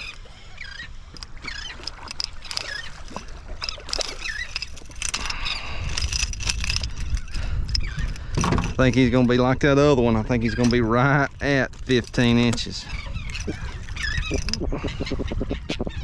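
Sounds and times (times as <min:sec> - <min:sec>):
seabirds calling: 0:00.0 - 0:16.0
wind and water rumble: 0:00.0 - 0:16.0.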